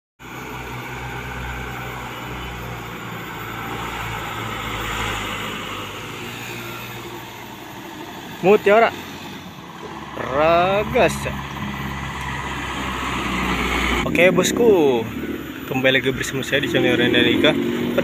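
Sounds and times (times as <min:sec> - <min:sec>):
truck engine running: 0:00.2 - 0:18.0.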